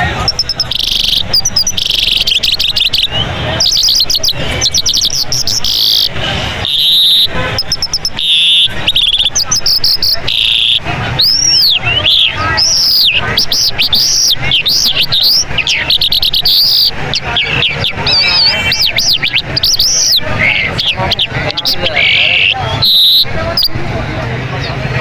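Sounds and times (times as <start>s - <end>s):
songbird singing: 0.0s - 24.8s.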